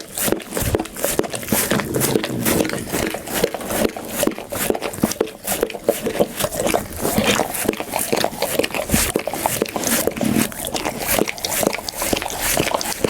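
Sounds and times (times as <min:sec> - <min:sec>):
dog chewing food: 0:00.0 - 0:13.0.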